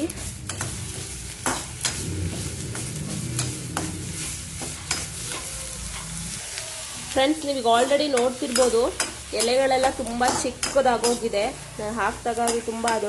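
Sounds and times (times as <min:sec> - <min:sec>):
leaves sizzling in a pan: 0:00.0 - 0:13.0.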